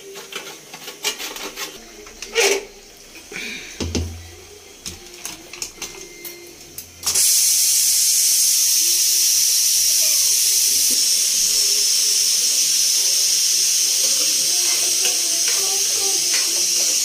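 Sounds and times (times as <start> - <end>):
pressure cooker steam hiss: 0.0 - 4.6, 7.0 - 17.0.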